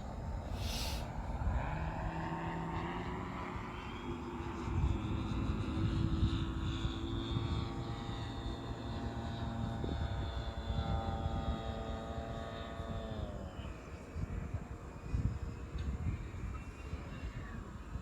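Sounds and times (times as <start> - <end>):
model airplane motor whine: 0.0 - 18.0.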